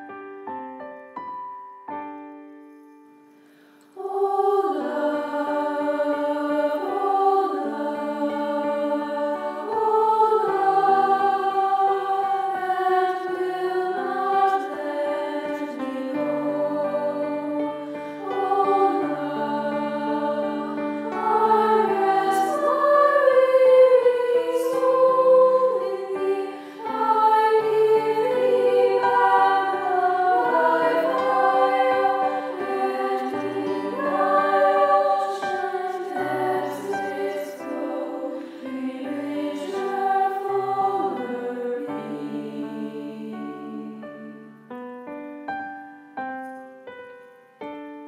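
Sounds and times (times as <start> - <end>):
choir singing a slow choral piece: 3.5 - 44.7.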